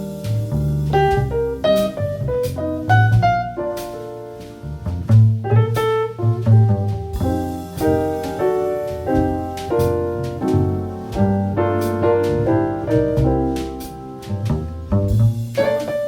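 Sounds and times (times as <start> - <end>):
bass line: 0.0 - 16.0
gentle piano instrumental: 0.0 - 16.0.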